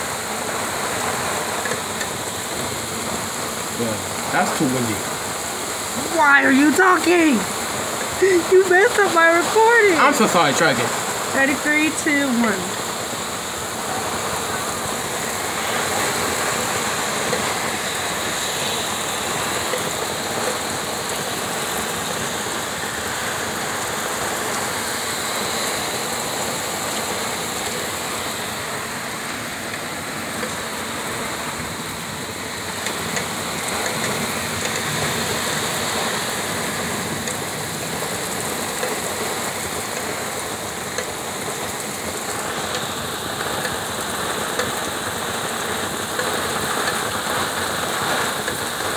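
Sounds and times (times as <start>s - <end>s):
heavy rain on pavement: 0.0s - 48.9s.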